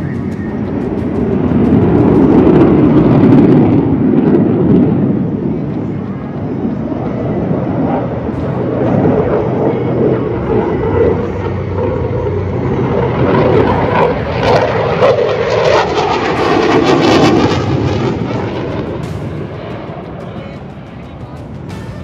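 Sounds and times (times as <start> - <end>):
jet flying past: 0.0 - 22.0.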